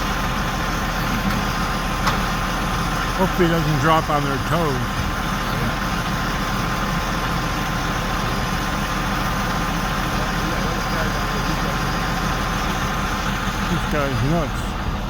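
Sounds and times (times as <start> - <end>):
crane diesel engine droning: 0.0 - 15.0.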